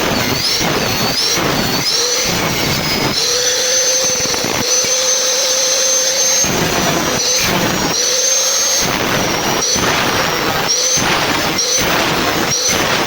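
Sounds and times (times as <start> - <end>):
log-cutting saw whining: 0.0 - 13.0.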